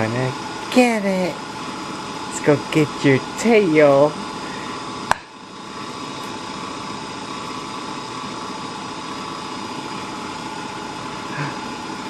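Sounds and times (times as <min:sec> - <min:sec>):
machine hum with high whine: 0:00.0 - 0:12.0.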